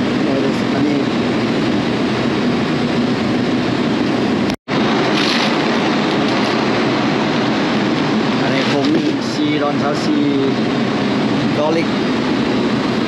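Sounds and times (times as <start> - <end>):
vehicle road noise: 0.0 - 13.0.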